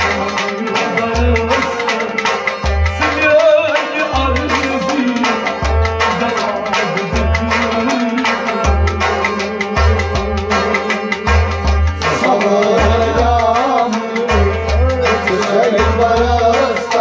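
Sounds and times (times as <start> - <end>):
harmonium: 0.0 - 17.0
man singing: 0.0 - 17.0
rabab plucking: 0.0 - 17.0.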